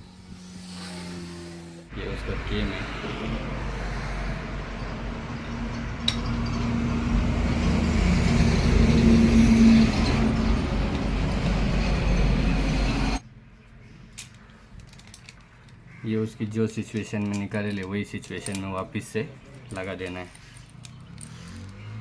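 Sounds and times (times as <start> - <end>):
motor vehicle rumbling: 0.0 - 13.2, 16.6 - 22.0.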